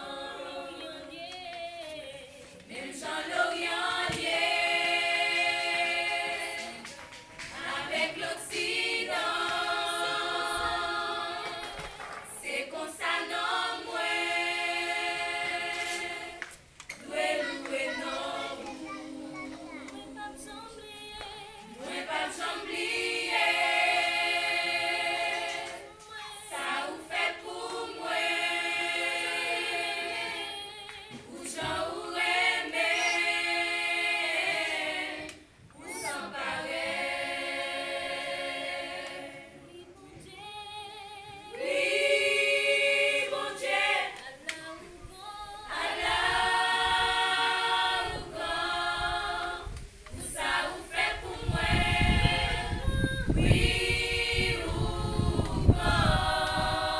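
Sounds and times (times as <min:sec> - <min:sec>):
women's choir singing a cappella: 0:00.0 - 0:56.9.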